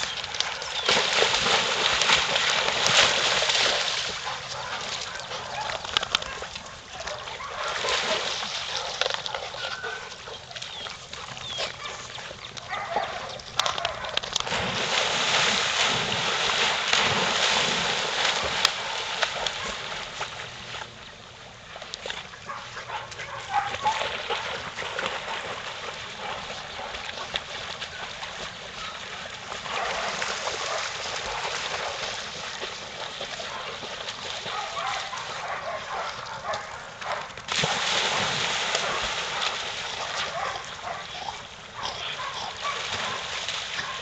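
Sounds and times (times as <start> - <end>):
dogs splashing in water: 0.0 - 21.0, 21.6 - 44.0.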